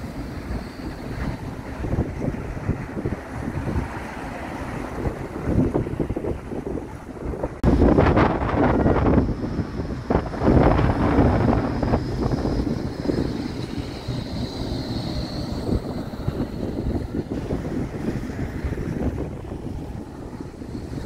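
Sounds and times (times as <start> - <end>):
faint high whine: 0.0 - 4.5, 7.8 - 21.0
tram rumbling past: 0.0 - 21.0
wind buffeting microphone: 0.0 - 21.0.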